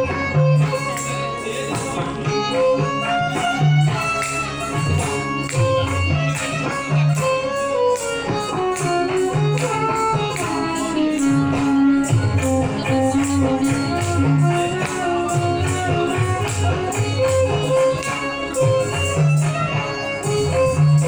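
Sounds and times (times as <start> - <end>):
percussion beat: 0.0 - 21.0
plucked string melody: 0.0 - 21.0.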